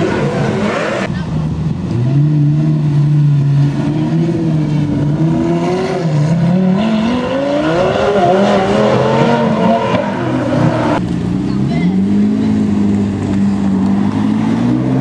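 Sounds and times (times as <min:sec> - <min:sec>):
sports car engine accelerating: 0:00.0 - 0:15.0.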